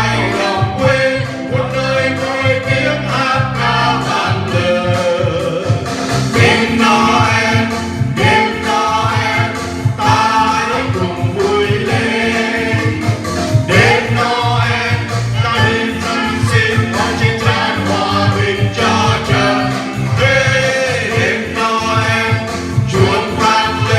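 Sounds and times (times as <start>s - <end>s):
choir singing: 0.0s - 5.6s, 6.3s - 23.9s
instrumental accompaniment: 0.0s - 23.9s
steady low beat: 0.0s - 23.9s.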